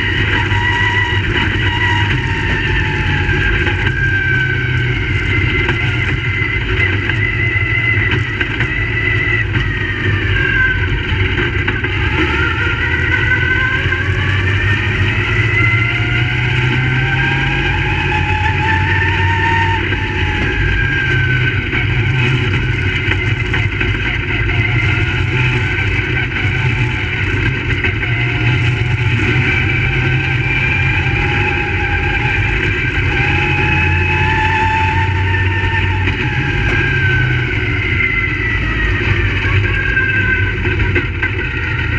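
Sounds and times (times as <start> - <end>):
race car engines at speed: 0.0 - 41.9.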